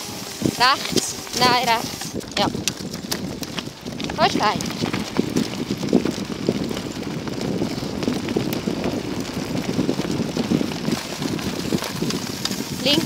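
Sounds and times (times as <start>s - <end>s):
cart wheels crunching on gravel: 0.0s - 13.0s
small rattles and ticks: 0.0s - 13.0s.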